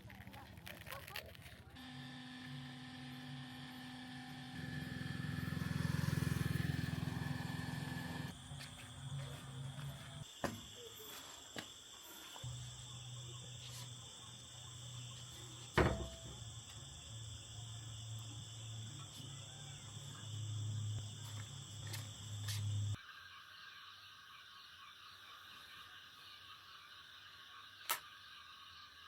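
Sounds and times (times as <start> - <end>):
insects chirring: 4.6 - 29.0.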